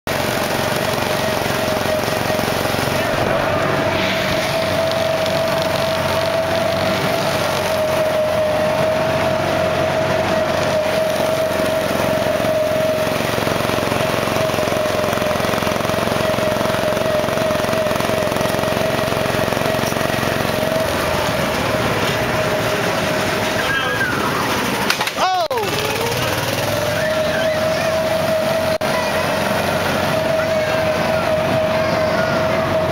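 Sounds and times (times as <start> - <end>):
small engine droning: 0.1 - 32.9.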